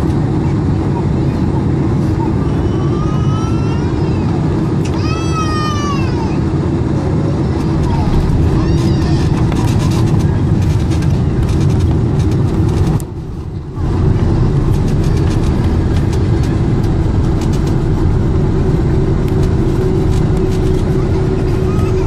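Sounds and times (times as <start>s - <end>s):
aircraft cabin rumble: 0.0s - 22.0s
steady hum: 0.0s - 22.0s.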